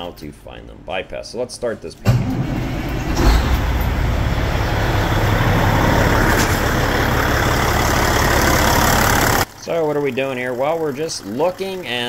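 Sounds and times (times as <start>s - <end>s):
diesel engine idling: 2.2s - 12.0s.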